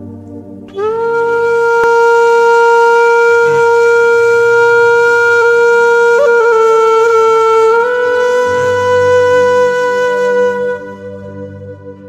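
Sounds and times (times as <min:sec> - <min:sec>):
soft low drone: 0:00.0 - 0:12.0
wind instrument long note: 0:00.0 - 0:12.0.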